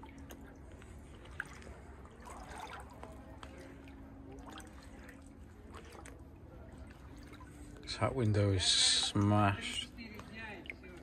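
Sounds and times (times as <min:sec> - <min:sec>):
water sloshing and trickling: 0:00.0 - 0:11.0.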